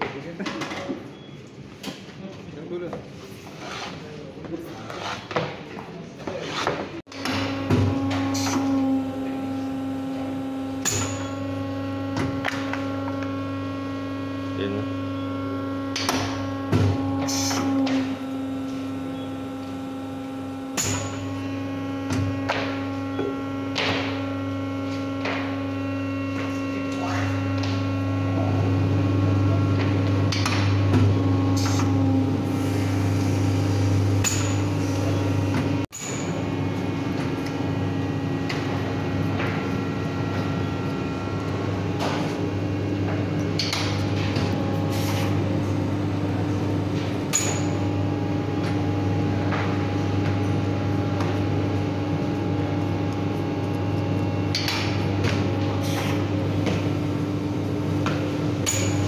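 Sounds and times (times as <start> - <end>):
factory machinery humming: 7.1 - 59.0.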